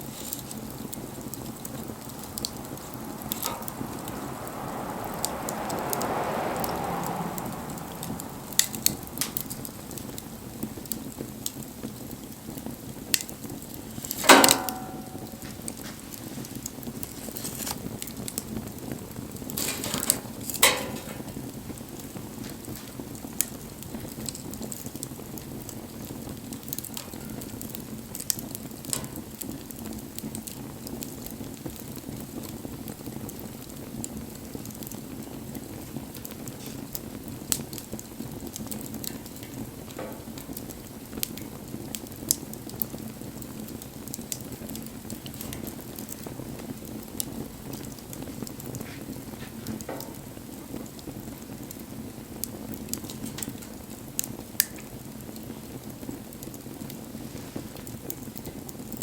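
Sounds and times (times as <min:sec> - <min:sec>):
low rush of flame: 0:00.0 - 0:59.0
wood fire crackling and popping: 0:00.0 - 0:59.0.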